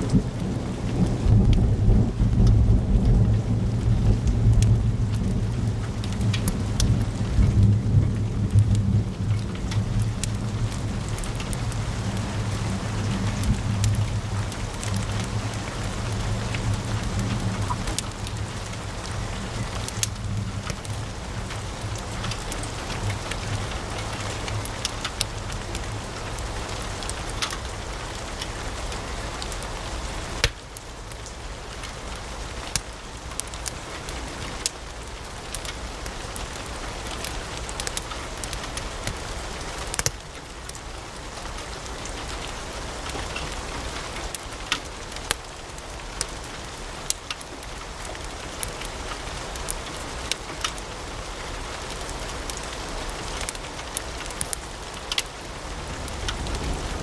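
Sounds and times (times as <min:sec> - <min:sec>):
logs crackling in fireplace: 0:00.0 - 0:57.0.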